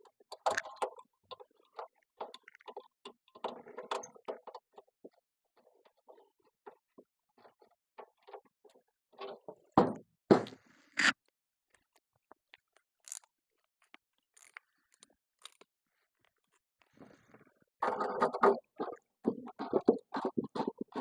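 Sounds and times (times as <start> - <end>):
small metal clicks and scrapes: 0.0 - 9.7, 11.0 - 16.6, 17.8 - 21.0.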